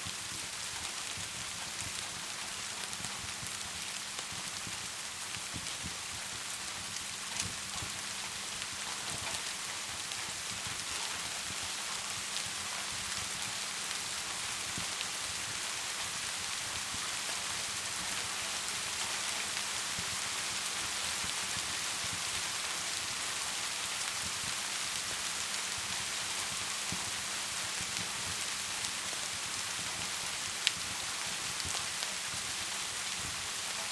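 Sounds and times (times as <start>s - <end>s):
steady rain hissing: 0.0s - 33.9s
wood fire crackling: 0.0s - 33.9s.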